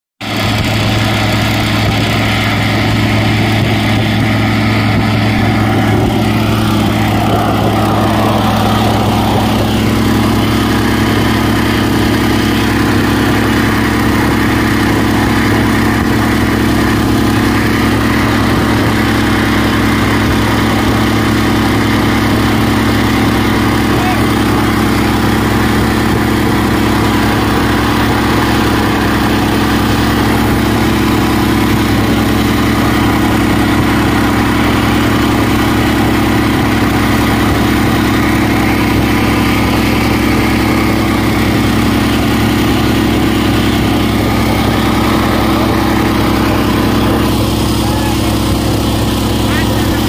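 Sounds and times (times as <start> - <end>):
small engine running steadily: 0.0 - 50.0.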